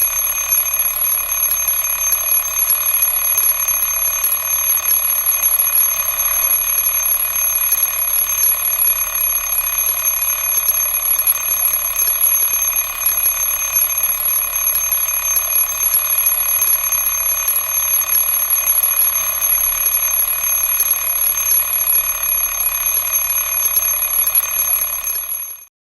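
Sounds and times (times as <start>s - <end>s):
alarm clock ringing: 0.0s - 25.7s.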